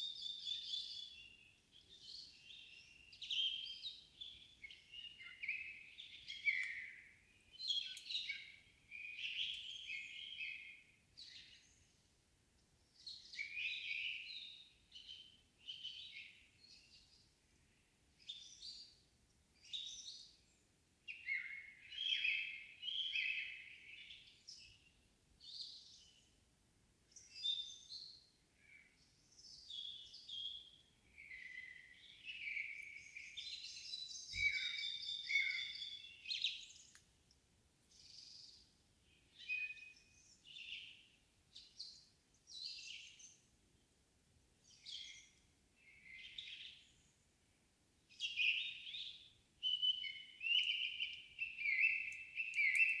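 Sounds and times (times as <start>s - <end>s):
songbirds singing: 0.0s - 26.4s, 27.0s - 44.0s, 44.6s - 53.0s.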